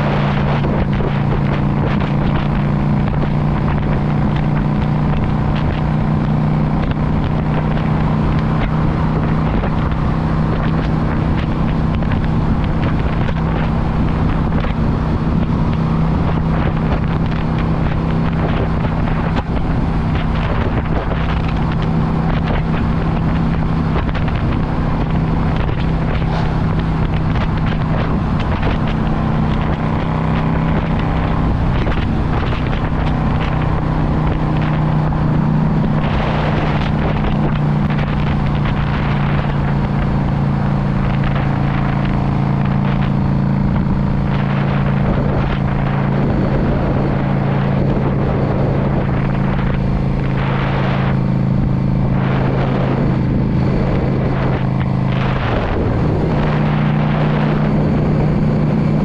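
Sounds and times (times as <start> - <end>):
motorcycle engine running: 0.0 - 59.0
wind gusts on microphone: 0.0 - 59.0.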